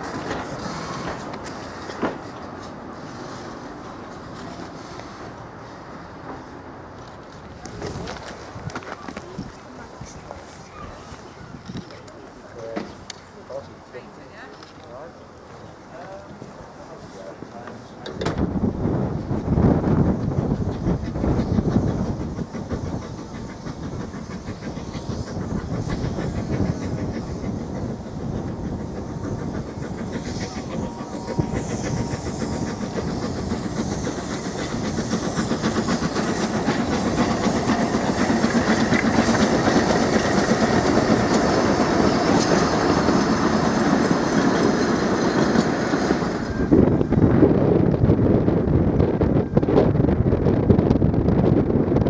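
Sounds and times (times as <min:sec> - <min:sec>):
steam locomotive exhaust: 0:00.0 - 0:52.0.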